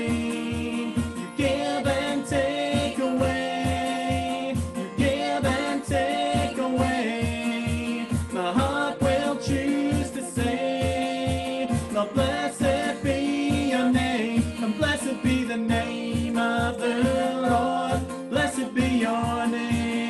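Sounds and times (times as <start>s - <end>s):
steady low beat: 0.0s - 20.0s
strummed acoustic guitar: 0.0s - 20.0s
woman and man singing together: 0.0s - 20.0s.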